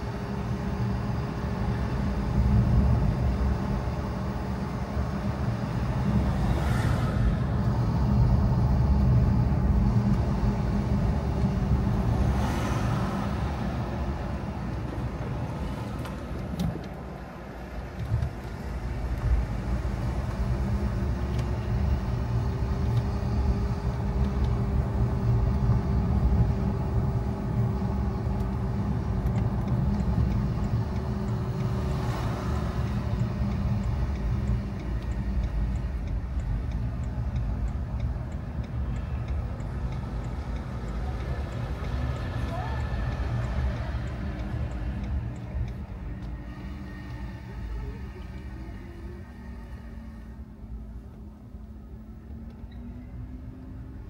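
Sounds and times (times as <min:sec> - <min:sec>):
rushing noise: 0:00.0 - 0:50.2
car engine and road rumble: 0:00.0 - 0:54.0
faint held whine: 0:00.0 - 0:54.0.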